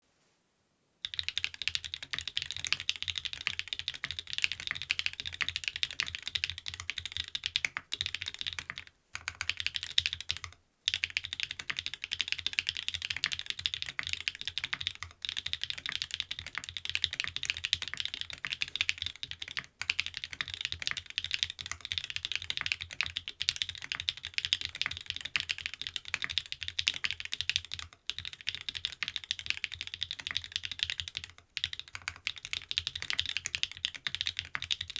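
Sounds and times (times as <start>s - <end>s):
fast typing on mechanical keyboard: 1.0s - 34.9s.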